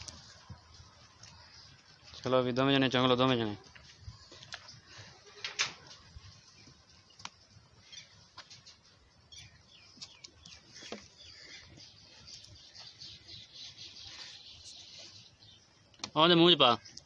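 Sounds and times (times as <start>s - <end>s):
goats shuffling and clicking: 0.0s - 15.6s.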